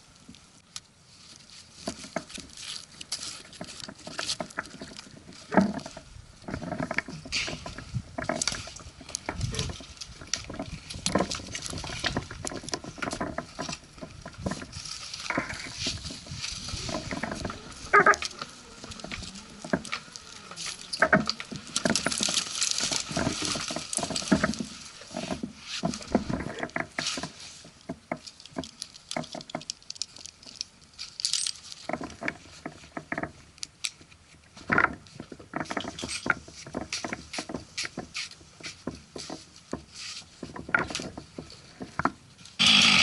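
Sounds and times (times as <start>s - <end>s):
branches rustling: 0.0s - 43.0s.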